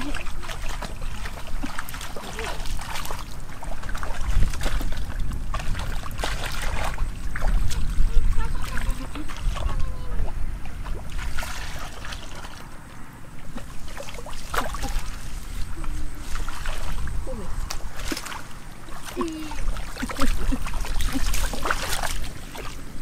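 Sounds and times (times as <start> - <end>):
muddy water splashing and sloshing: 0.0 - 23.0
wind rumble on microphone: 0.0 - 23.0.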